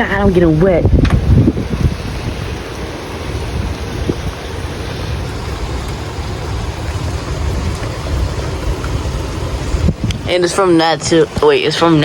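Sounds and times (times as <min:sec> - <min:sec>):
rain hissing: 0:00.0 - 0:12.0
wind rumbling on microphone: 0:00.0 - 0:12.0.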